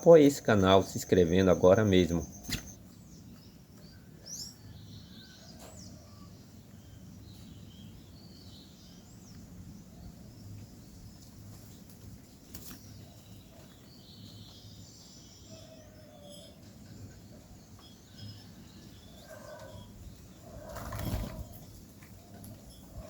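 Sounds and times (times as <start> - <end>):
bird chirps and twittering: 0.0 - 23.0.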